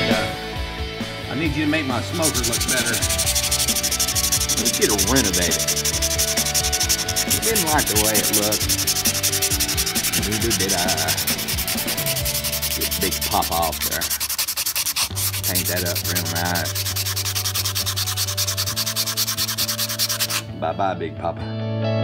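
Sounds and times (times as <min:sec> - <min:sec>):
scratchy rubbing noise: 0:02.0 - 0:20.5.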